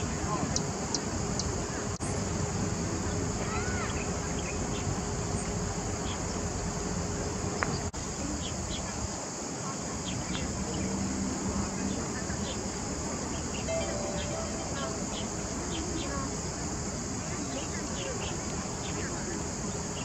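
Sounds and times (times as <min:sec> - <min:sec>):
high-pitched outdoor hiss: 0:00.0 - 0:20.0.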